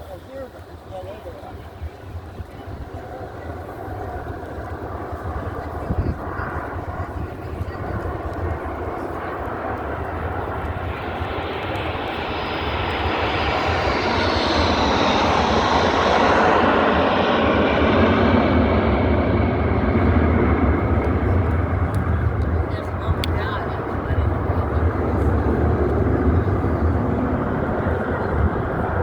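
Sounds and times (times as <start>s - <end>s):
jet aircraft flying past: 0.1s - 29.0s.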